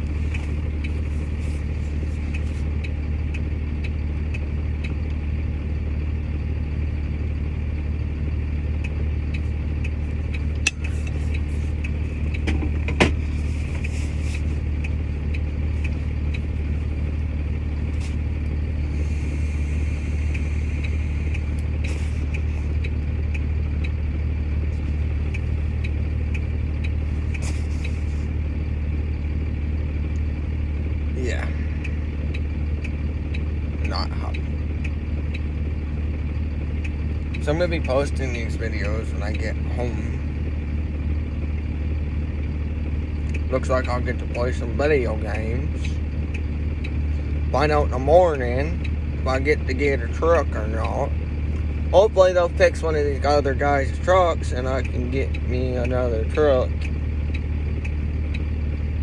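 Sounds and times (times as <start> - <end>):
light regular ticking: 0.0 - 59.0
truck engine idling: 0.0 - 59.0.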